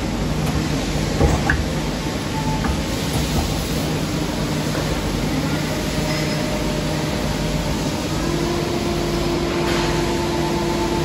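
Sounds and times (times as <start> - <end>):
lathe mechanical hum: 0.0 - 11.0.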